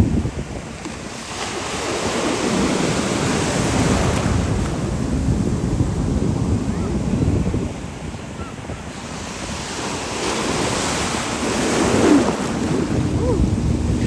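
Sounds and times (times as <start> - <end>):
ocean surf breaking: 0.0 - 14.0
wind buffeting microphone: 0.0 - 14.0.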